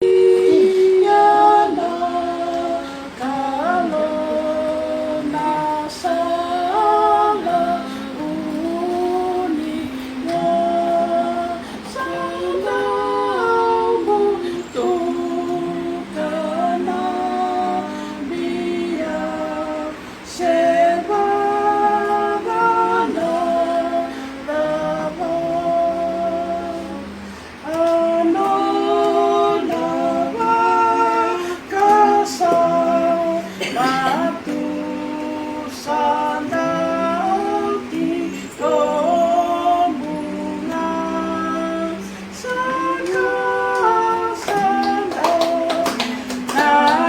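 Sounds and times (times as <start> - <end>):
women singing a hymn in harmony: 0.0 - 47.0.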